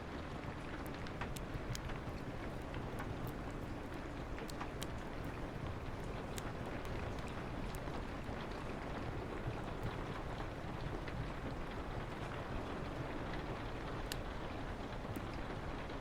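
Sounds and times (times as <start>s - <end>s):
rain on a window: 0.0s - 16.0s
wood fire crackling: 0.2s - 16.0s.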